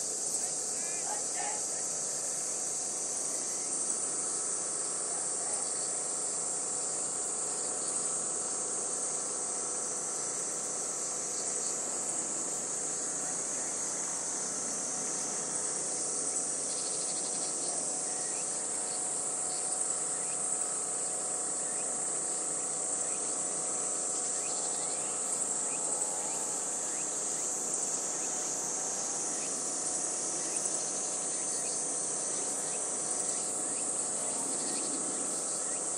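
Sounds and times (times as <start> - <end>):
shrill insect chorus: 0.0 - 35.9.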